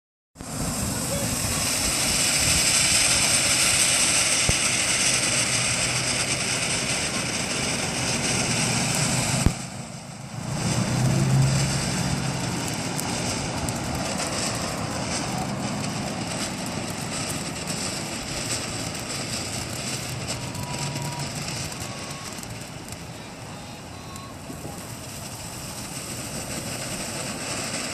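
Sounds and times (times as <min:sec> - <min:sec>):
sharp firework pop: 0:00.4 - 0:23.0
firework sparks hissing: 0:00.4 - 0:27.9.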